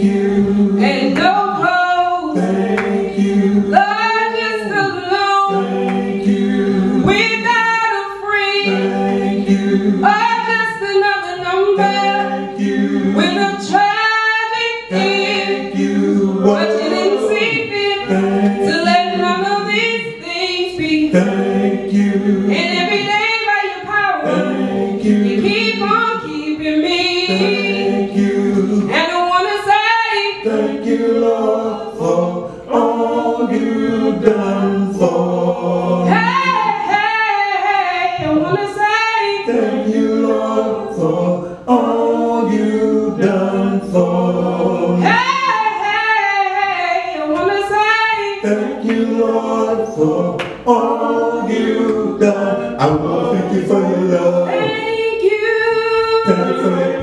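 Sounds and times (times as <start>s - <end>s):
woman singing gospel: 0.0s - 34.9s, 36.0s - 41.2s, 45.0s - 48.5s, 54.4s - 57.0s
backing choir voices: 0.0s - 57.0s.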